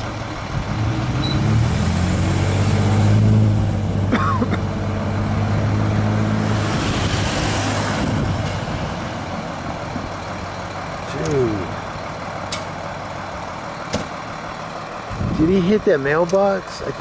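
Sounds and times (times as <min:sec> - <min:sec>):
large vehicle engine humming: 0:00.0 - 0:17.0.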